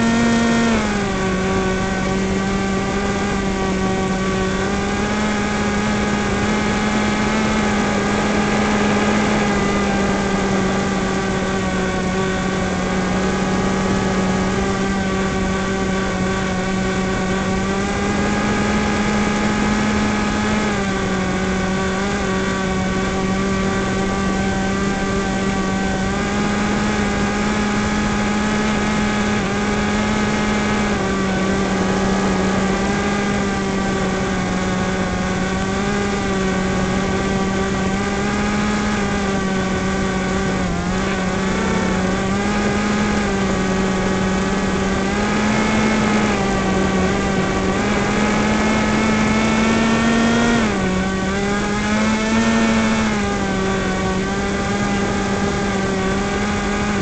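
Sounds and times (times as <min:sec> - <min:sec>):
model plane motor and propeller: 0:00.0 - 0:57.0.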